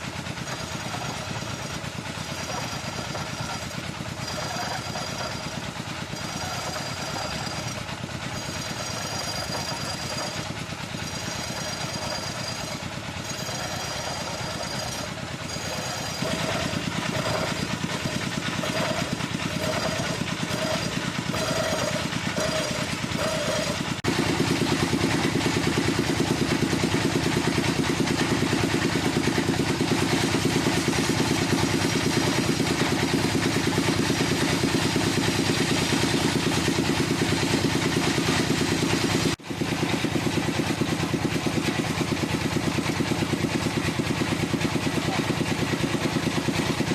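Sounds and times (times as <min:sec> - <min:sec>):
woodworking power tools running: 0:00.0 - 0:46.9.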